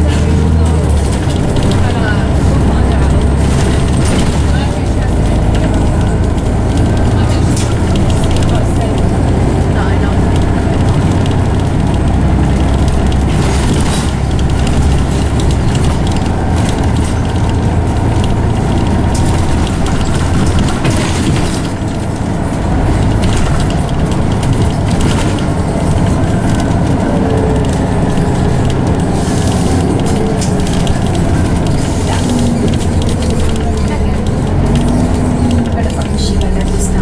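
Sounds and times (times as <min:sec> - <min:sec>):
bus engine rumbling: 0:00.0 - 0:37.0
gearbox whine: 0:00.0 - 0:37.0
interior rattling and clicking: 0:00.0 - 0:37.0
road noise: 0:00.0 - 0:37.0.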